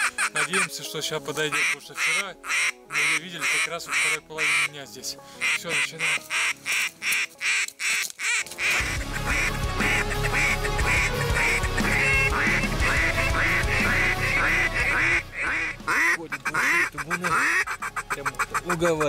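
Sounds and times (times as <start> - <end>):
duck call quacking: 0.0 - 0.8, 1.5 - 4.7, 5.4 - 19.0
background music: 0.0 - 19.0.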